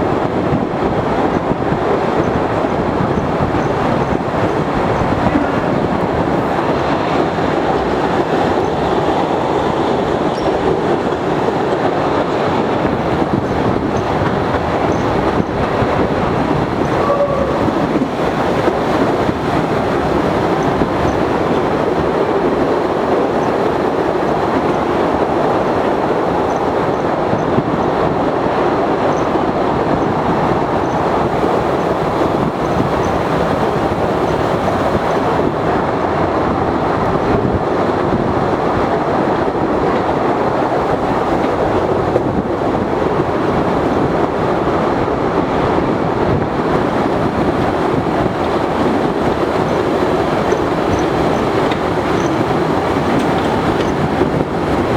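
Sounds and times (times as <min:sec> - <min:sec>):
train wheels rattling on rails: 0:00.0 - 0:54.9.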